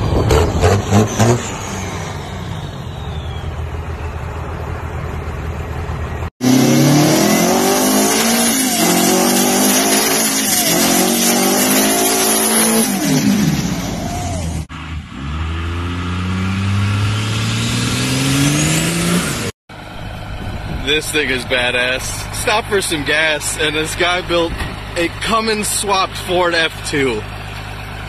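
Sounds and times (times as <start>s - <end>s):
diesel pickup pulling away: 0.0s - 28.0s
diesel truck engine revving: 0.0s - 28.0s.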